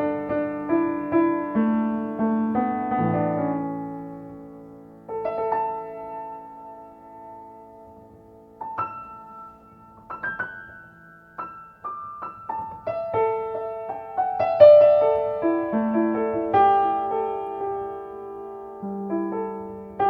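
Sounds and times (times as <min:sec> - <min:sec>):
solo piano melody: 0:00.0 - 0:20.0.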